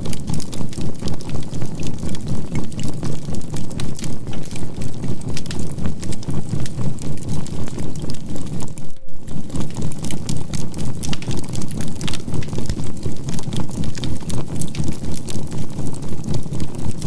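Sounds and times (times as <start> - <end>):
charcoal fire crackling: 0.0 - 17.0.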